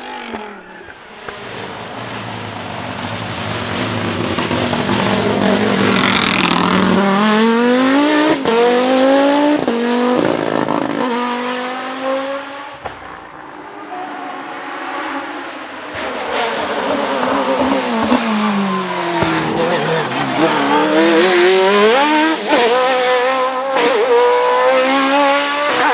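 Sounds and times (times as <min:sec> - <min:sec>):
race car accelerating past: 0:00.0 - 0:25.9.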